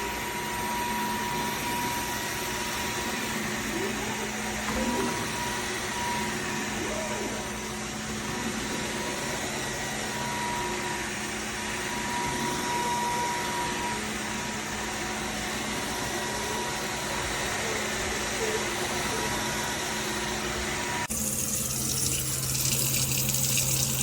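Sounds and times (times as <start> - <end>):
vacuum mop whirring: 0.0 - 21.2.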